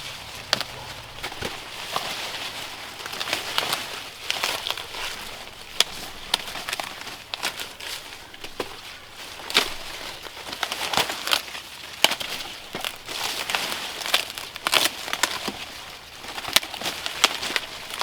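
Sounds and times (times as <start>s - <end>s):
dry material crackling and crumpling: 0.0s - 18.0s.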